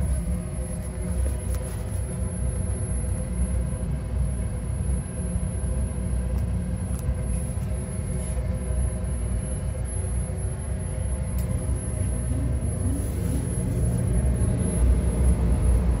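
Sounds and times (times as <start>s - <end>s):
gas furnace rumbling: 0.0s - 16.0s.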